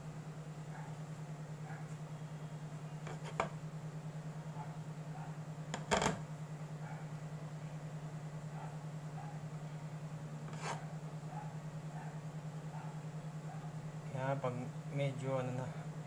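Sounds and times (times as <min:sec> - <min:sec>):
cooktop humming: 0:00.0 - 0:08.4, 0:09.0 - 0:14.0.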